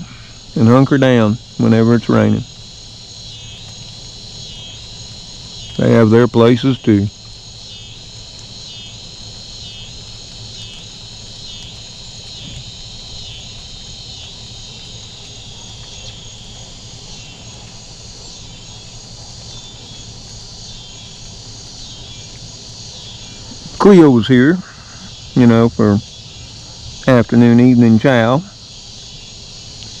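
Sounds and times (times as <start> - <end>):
crickets chirping: 0.0 - 30.0
light rain hiss: 0.0 - 30.0.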